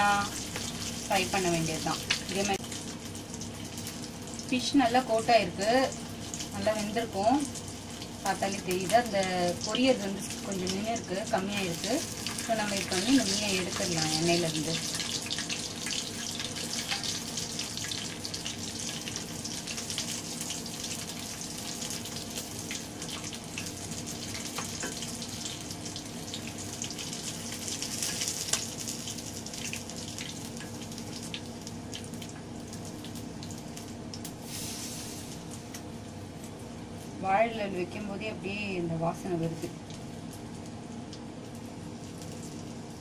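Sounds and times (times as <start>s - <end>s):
fish sizzling in hot oil: 0.0s - 35.8s, 39.4s - 43.0s.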